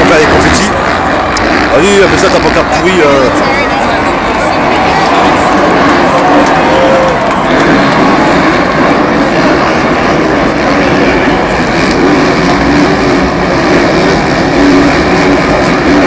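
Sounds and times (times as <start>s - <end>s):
motorcycles racing: 0.0s - 16.0s.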